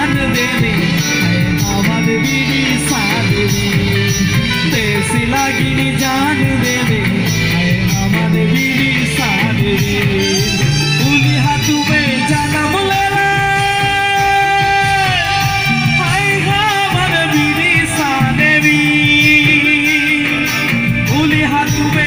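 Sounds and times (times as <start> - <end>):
band accompaniment: 0.0 - 22.0
person singing: 0.0 - 22.0.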